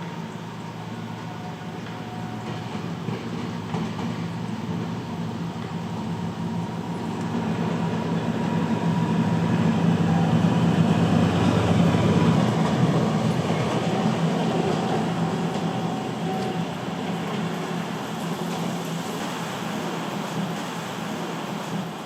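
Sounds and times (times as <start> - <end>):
locomotive diesel engine droning: 0.0 - 18.9.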